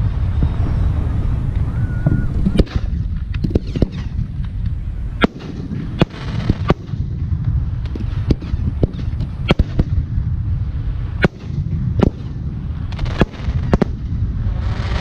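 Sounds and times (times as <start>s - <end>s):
low rumble of booms: 0.0s - 15.0s.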